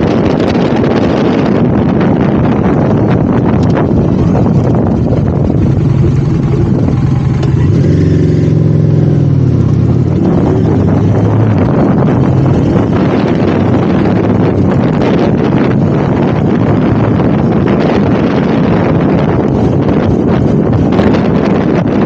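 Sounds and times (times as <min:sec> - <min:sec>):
motorcycle engine: 0:00.0 - 0:22.0
wind on microphone: 0:00.0 - 0:22.0.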